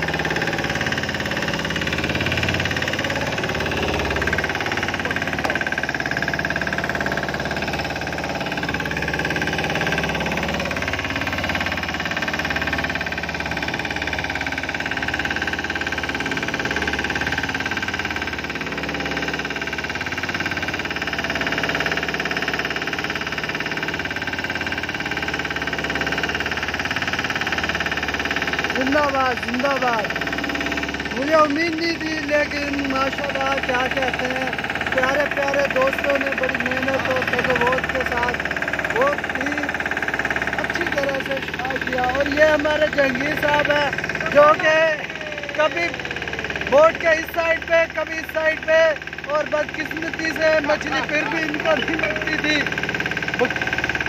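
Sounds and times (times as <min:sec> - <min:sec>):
boat diesel engine droning: 0:00.0 - 0:54.0.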